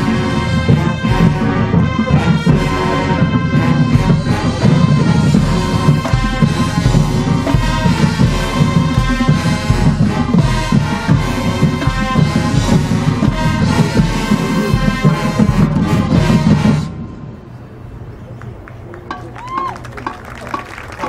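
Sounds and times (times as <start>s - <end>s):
marching band playing: 0.0s - 21.0s.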